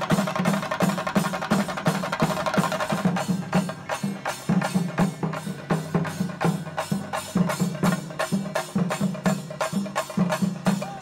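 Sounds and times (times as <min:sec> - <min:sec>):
drum ensemble beaten with sticks: 0:00.0 - 0:11.0.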